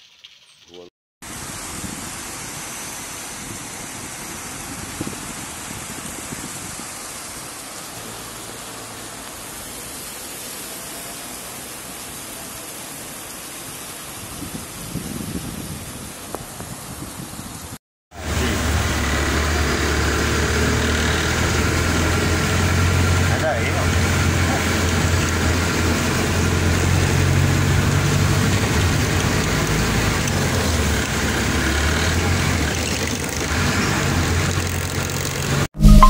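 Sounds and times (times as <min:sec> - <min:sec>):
heavy rain pouring: 0:01.2 - 0:15.0, 0:18.1 - 0:35.7.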